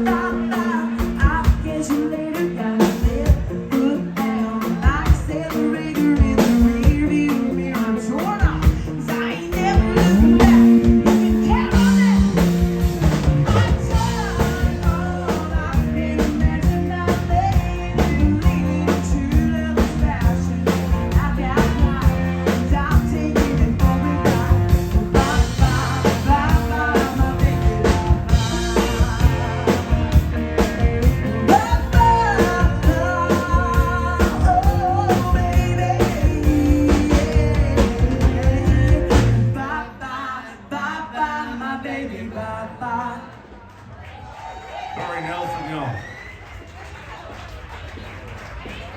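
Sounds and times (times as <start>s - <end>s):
steady drum beat: 0.0s - 39.6s
guitar: 0.0s - 40.9s
person singing lead vocal: 0.0s - 43.5s.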